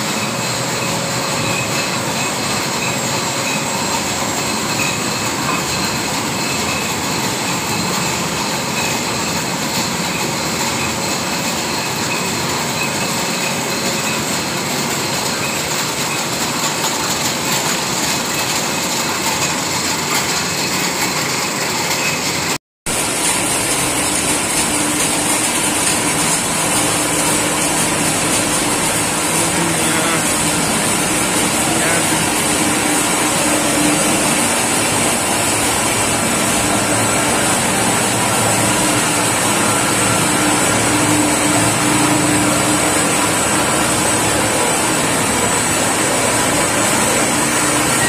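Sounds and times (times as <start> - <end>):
twine making machine whirring: 0.0 - 48.0.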